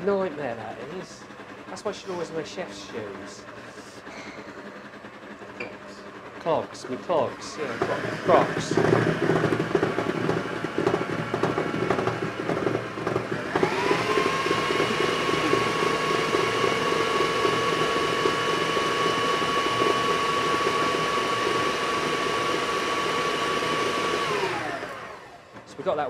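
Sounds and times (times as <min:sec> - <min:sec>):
stand mixer motor whine: 0:00.0 - 0:26.0.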